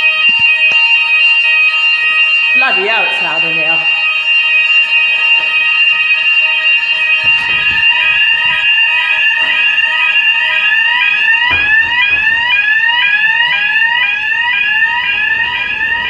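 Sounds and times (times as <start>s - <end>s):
fire alarm steady electronic tones: 0.0s - 16.0s
rising whoop alarm: 0.0s - 16.0s.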